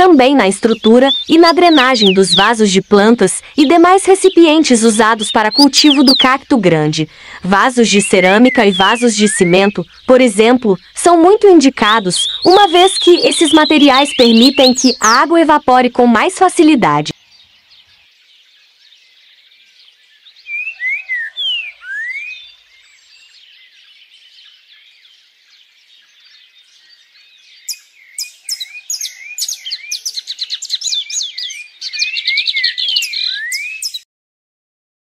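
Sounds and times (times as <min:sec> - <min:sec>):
birds chirping: 0:00.0 - 0:34.0
birds whistling: 0:00.4 - 0:06.5, 0:07.2 - 0:15.5, 0:17.0 - 0:34.0.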